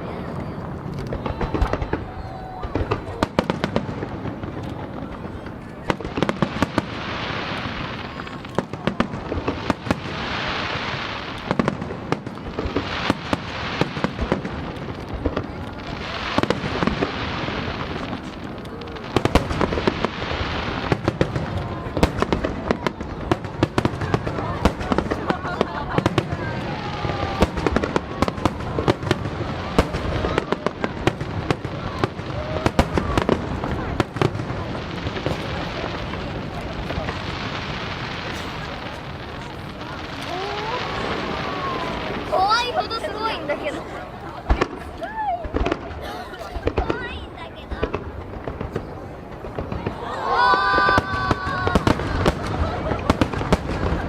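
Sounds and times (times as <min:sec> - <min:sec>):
crackling hiss: 0:00.2 - 0:47.1
firework shells bursting: 0:00.7 - 0:46.0.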